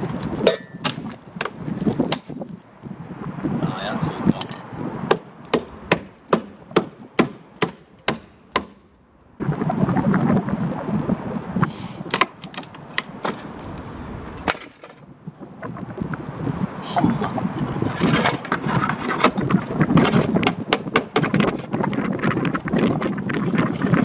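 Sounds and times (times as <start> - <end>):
steady rush of noise: 0.0 - 21.3.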